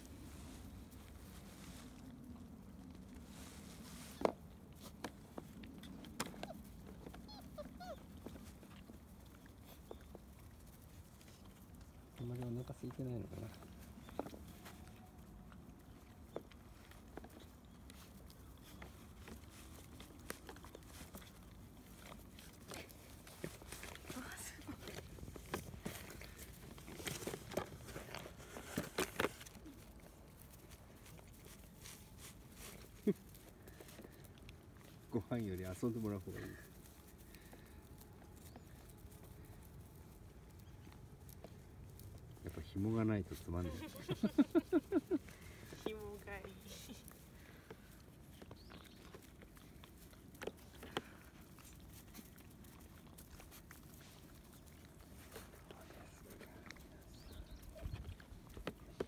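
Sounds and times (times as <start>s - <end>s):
puppies eating kibble: 0.0s - 59.0s.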